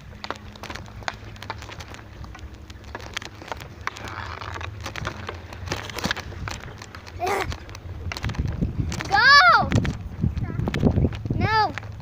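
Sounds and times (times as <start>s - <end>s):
camera rattling on bicycle: 0.0s - 12.0s
low rumble of bicycle ride: 0.0s - 12.0s.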